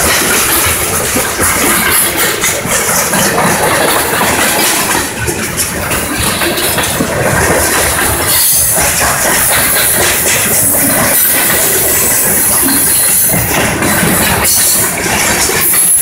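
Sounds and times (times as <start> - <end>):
steel wheels rumbling on rail: 0.0 - 16.0
wheels clacking over rail joints: 0.0 - 16.0.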